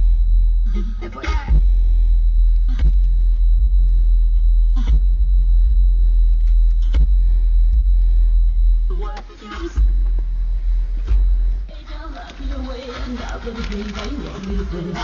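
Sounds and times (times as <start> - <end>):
subwoofer playing deep bass: 0.0 - 15.0.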